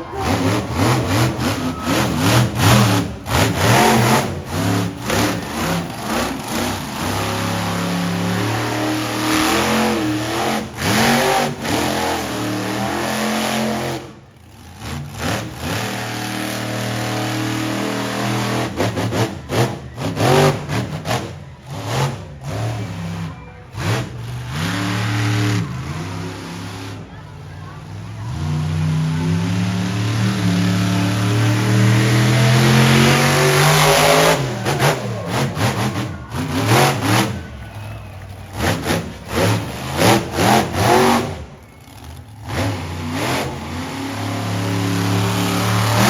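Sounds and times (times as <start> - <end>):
truck engine revving hard: 0.0 - 46.0.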